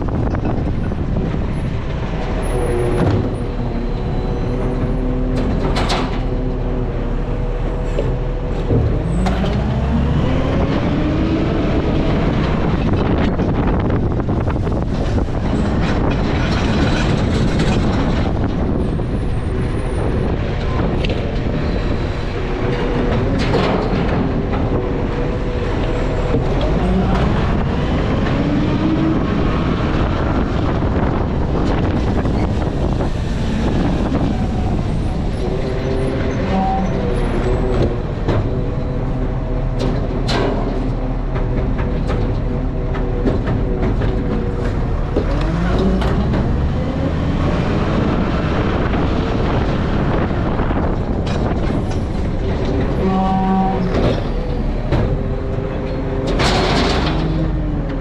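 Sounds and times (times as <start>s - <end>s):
truck diesel engine revving: 0.1s - 58.0s.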